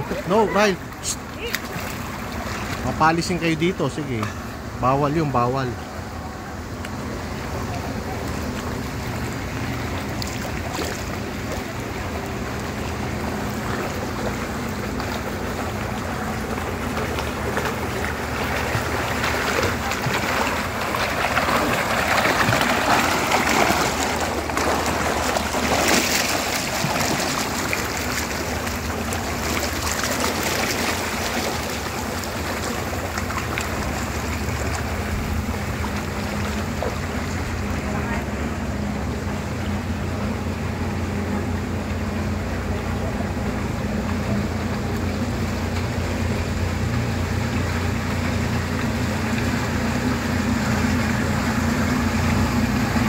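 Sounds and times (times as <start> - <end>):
pool water splashing: 0.0 - 53.0.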